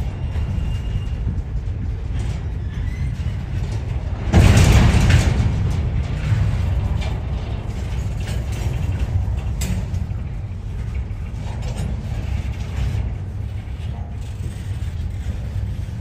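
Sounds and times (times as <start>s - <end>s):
freight train rumbling past: 0.0s - 16.0s
sharp clacks of rail cars: 0.0s - 16.0s.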